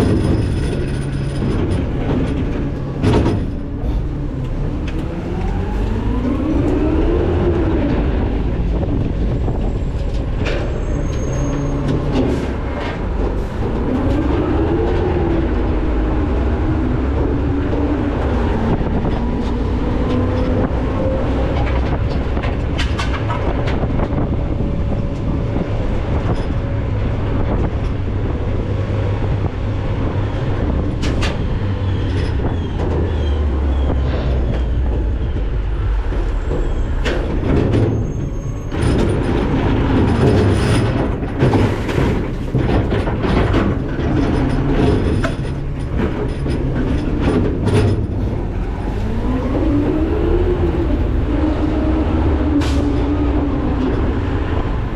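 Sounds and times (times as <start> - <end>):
diesel engine rumble: 0.0 - 54.9.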